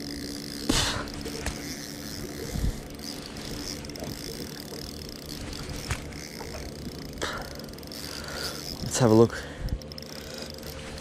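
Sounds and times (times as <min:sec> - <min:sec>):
fishing reel gears whirring: 0:00.0 - 0:11.0.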